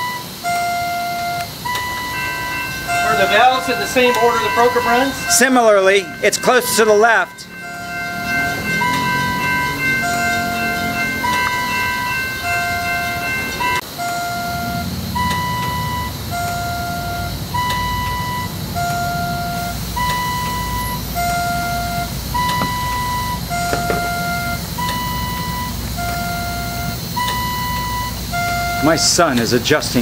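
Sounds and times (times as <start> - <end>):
electronic beeps alternating: 0.0 - 29.2
chord-like tone sequence: 0.0 - 29.3.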